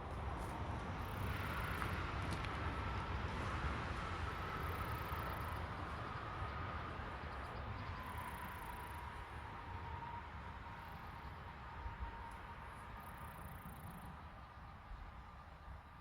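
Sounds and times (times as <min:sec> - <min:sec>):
vehicle passing on road: 0:00.0 - 0:14.0.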